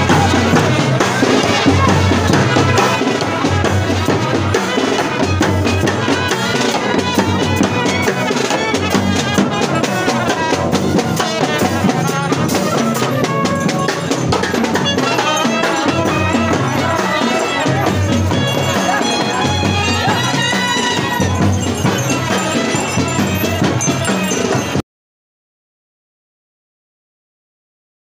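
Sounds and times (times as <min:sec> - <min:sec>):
bass drum and snare beat: 0:00.0 - 0:24.8
brass band playing: 0:00.0 - 0:24.8.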